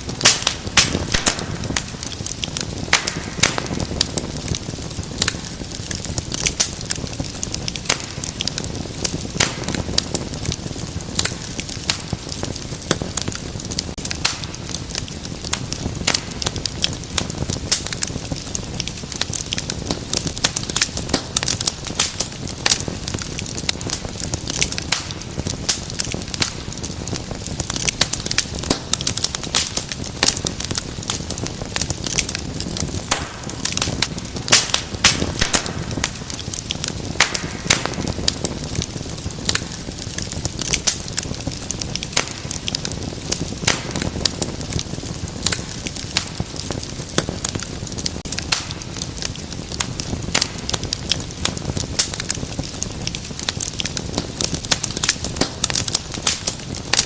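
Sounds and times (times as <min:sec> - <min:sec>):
fire crackling and popping: 0:00.0 - 0:57.0
low rumble of flame: 0:00.0 - 0:57.0.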